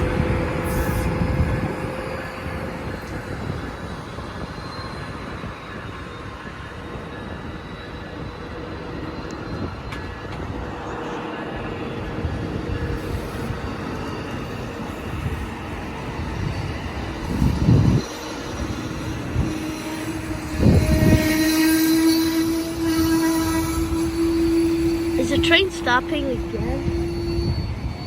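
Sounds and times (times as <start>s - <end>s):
faint high whine: 0.0s - 28.0s
train rumbling: 0.0s - 28.0s.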